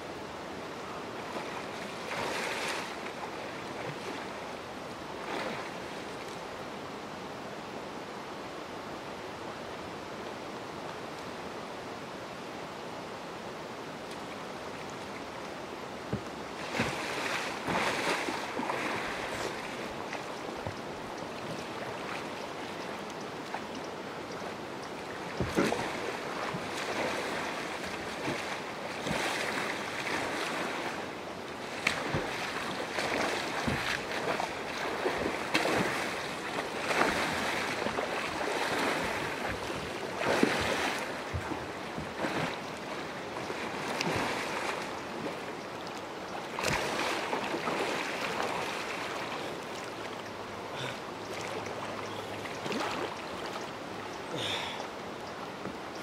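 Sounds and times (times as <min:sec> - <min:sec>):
rushing water: 0:00.0 - 0:56.0
kayak splashing water: 0:01.2 - 0:04.5, 0:05.1 - 0:06.4, 0:14.6 - 0:56.0.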